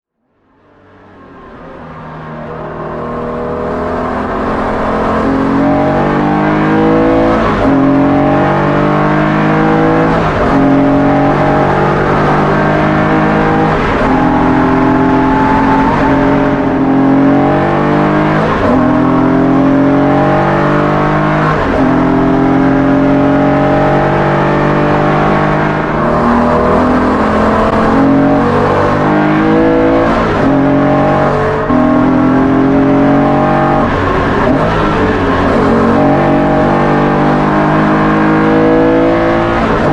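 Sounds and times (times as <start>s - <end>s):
car engine revving hard: 1.3s - 39.9s.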